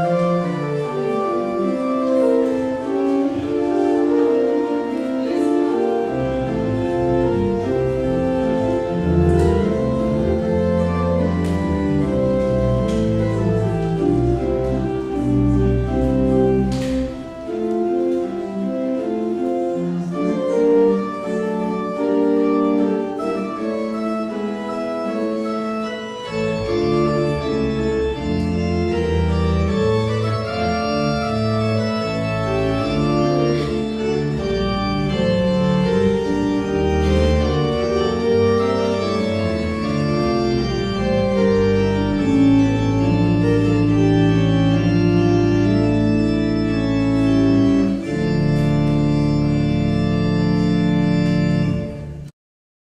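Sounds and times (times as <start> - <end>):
organ music: 0.0 - 52.3.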